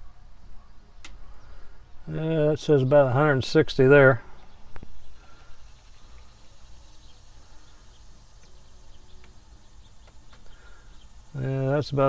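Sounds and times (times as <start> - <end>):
faint high chirps and ticks: 0.0 - 12.0.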